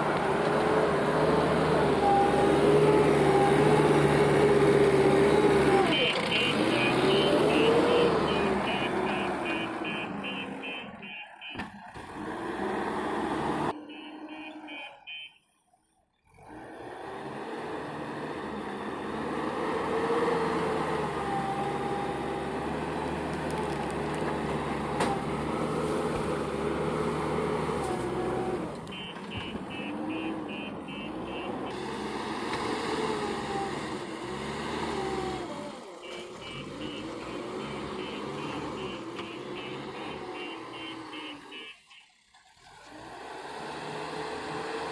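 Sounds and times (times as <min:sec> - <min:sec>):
diesel engine working: 0:00.0 - 0:15.0, 0:16.2 - 0:41.9.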